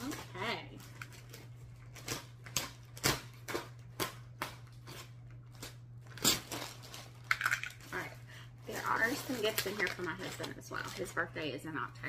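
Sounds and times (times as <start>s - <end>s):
plastic mailer bag crinkling: 0.0s - 11.5s
steady low hum: 0.0s - 12.0s.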